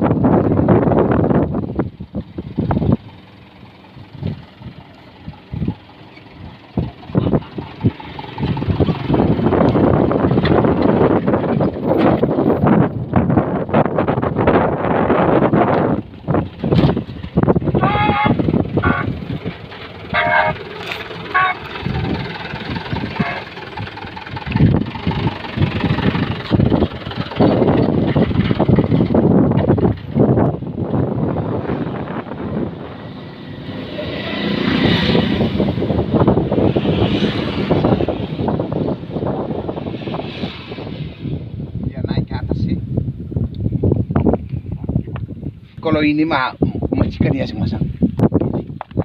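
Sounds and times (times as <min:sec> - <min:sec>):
truck engine rumbling: 0:00.0 - 0:49.0
wind buffeting microphone: 0:00.0 - 0:49.0.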